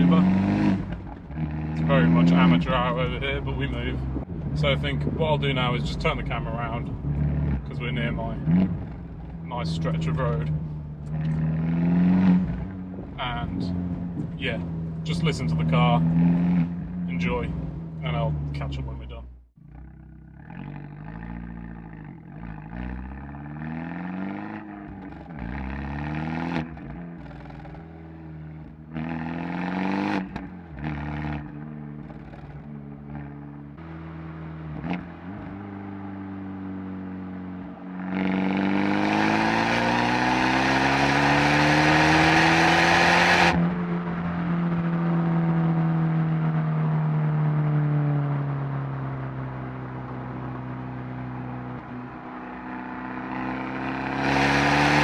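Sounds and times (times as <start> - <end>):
raspy car engine revving: 0.0 - 55.0.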